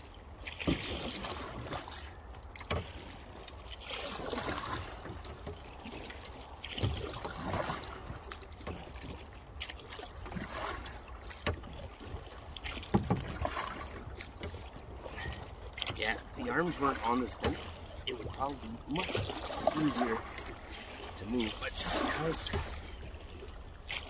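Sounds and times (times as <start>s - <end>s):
paddle strokes splashing water: 0.0s - 24.0s.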